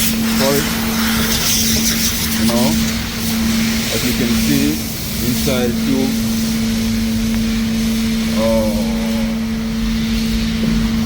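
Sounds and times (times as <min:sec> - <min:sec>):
industrial machinery drone: 0:00.0 - 0:11.0.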